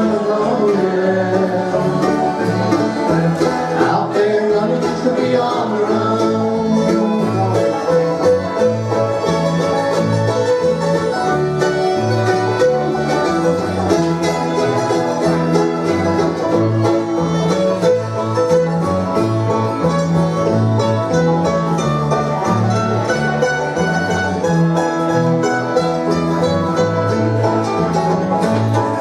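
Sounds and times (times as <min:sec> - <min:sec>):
alternating bass line: 0:00.0 - 0:29.0
banjo: 0:00.0 - 0:29.0
strummed guitar: 0:00.0 - 0:29.0.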